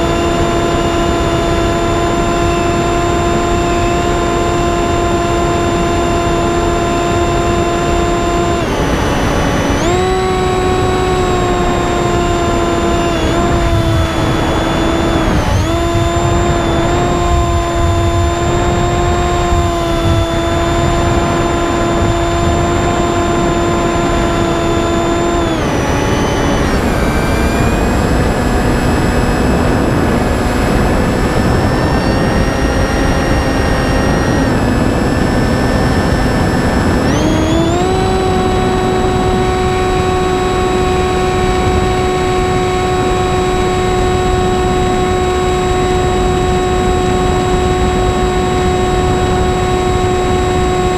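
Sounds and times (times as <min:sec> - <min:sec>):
electric motor whine: 0:00.0 - 0:50.9.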